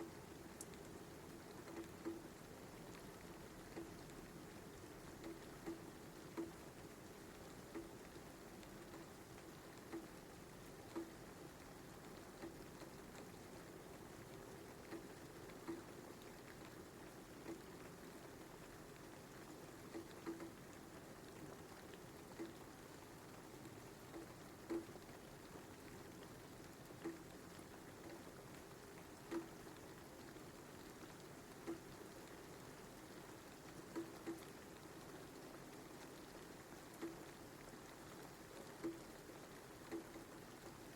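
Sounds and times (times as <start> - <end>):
light rain hiss: 0.0 - 40.9
single raindrops landing: 0.0 - 40.9.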